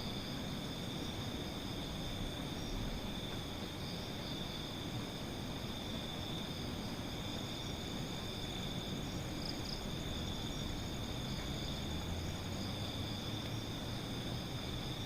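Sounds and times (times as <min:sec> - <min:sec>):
low background hiss and rumble: 0:00.0 - 0:15.0
night insects trilling: 0:00.0 - 0:15.0.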